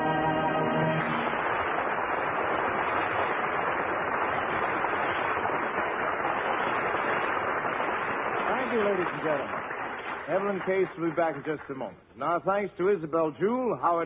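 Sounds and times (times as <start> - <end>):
studio audience applause: 0.0 - 12.0.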